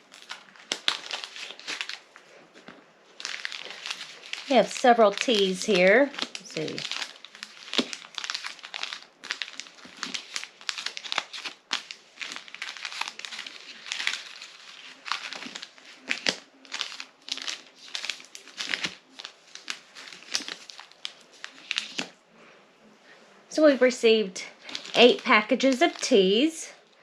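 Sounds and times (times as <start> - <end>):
packaging crinkling: 0.0 - 22.2, 24.6 - 26.3.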